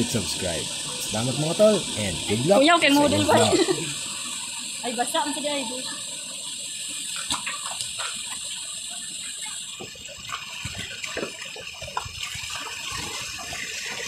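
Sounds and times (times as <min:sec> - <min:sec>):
stream water rushing over rocks: 0:00.0 - 0:14.0.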